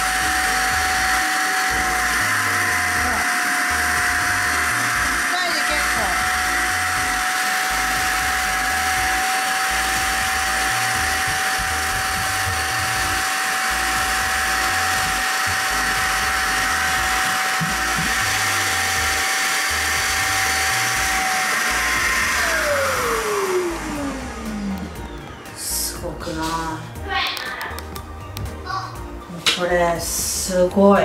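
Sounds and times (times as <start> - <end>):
nozzle spraying and sucking water: 0.0 - 25.0
carpet cleaner motor whine: 0.0 - 27.1.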